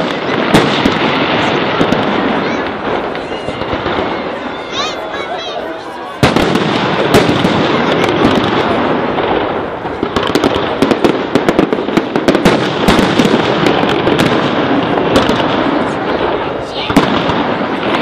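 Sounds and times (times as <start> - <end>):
firework bangs: 0.0 - 18.0
fireworks crackle: 0.0 - 18.0.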